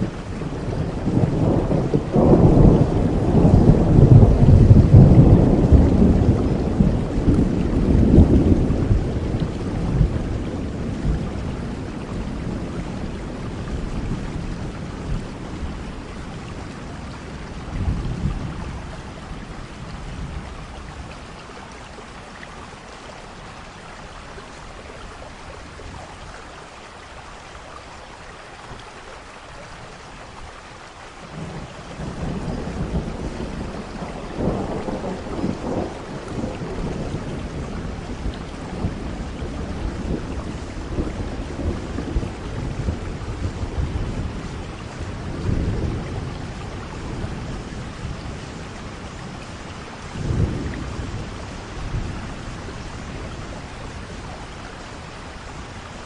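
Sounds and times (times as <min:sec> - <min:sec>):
thunder rumbling: 0:00.0 - 0:21.7, 0:31.2 - 0:56.0
steady rain falling: 0:00.0 - 0:56.0.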